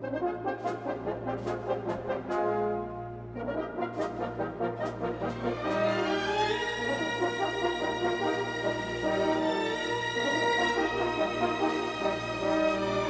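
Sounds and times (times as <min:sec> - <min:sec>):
brass chords: 0:00.0 - 0:13.0.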